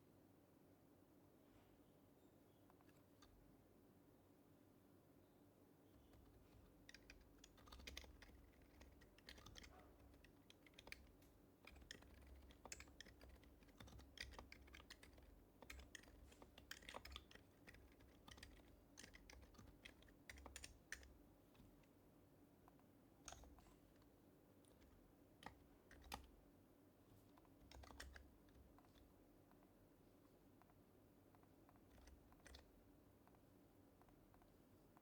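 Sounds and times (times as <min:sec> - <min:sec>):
soft muted keyboard typing: 0:02.6 - 0:03.5, 0:05.8 - 0:35.0.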